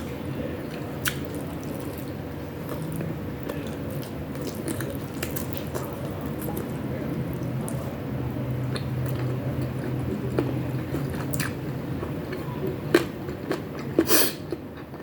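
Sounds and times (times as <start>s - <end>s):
wet chewing of food: 0.0s - 15.0s.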